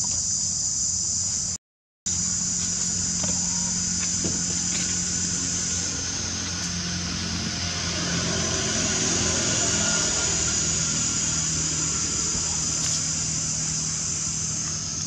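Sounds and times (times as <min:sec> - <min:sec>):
insect chorus drone: 0:00.0 - 0:15.0
low steady hum: 0:02.1 - 0:15.0.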